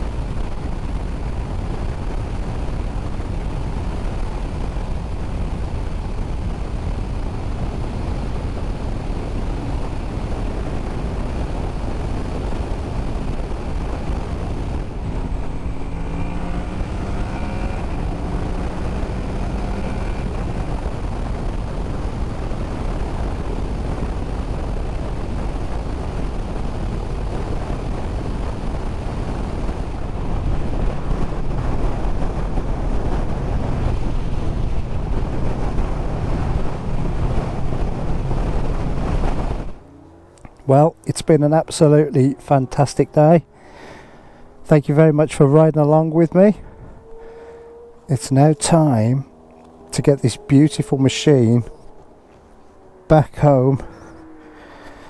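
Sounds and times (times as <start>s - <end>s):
motorcycle engine drone: 0.0s - 55.0s
wind rush over microphone: 0.0s - 55.0s.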